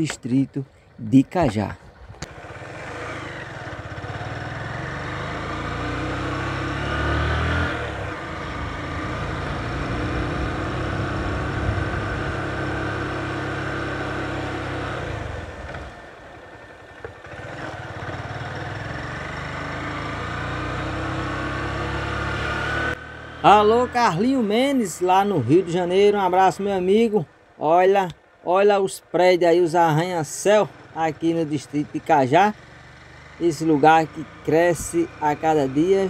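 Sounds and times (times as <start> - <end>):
motorcycle engine running: 1.4 - 28.4, 29.9 - 36.0.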